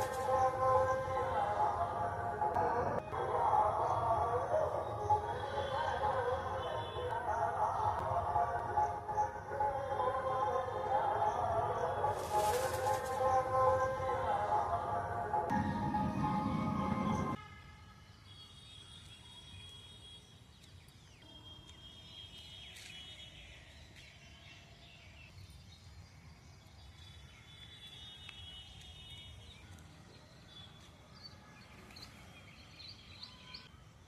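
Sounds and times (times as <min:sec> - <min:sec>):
birds chirping and trilling: 0:00.0 - 0:17.4, 0:18.1 - 0:33.8.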